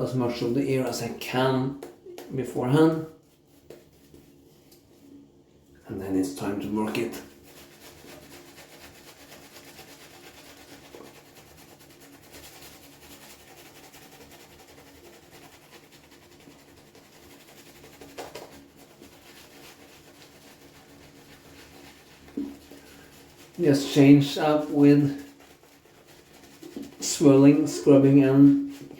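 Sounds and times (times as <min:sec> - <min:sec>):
shaving brush lathering soap: 0:00.1 - 0:05.2, 0:06.0 - 0:28.9.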